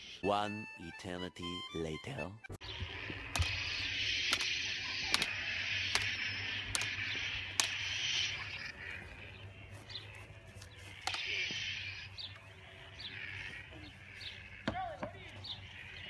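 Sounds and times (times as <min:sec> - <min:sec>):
steady outdoor hiss: 0:02.6 - 0:16.0.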